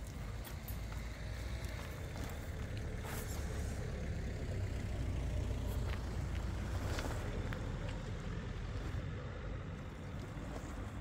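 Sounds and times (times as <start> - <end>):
steady low rumble: 0.0 - 11.0
stones clicking under tyres: 0.0 - 11.0.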